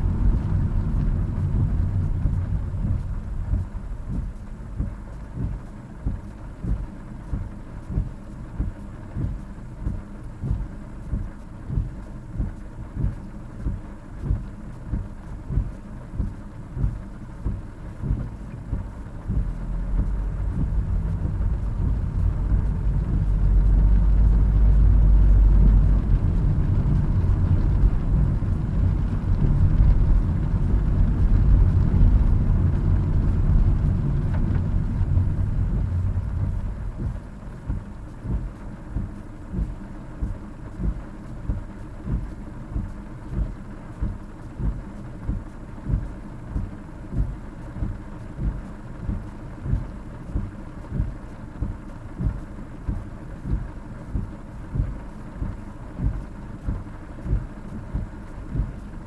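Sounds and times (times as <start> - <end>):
regular soft knocking: 0.0 - 58.8
road and wind rumble: 0.0 - 59.0.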